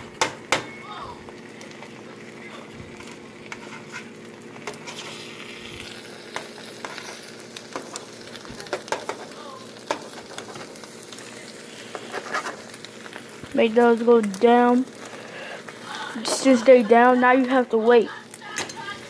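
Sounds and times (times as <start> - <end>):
eggs sizzling in a frying pan: 0.0 - 19.0.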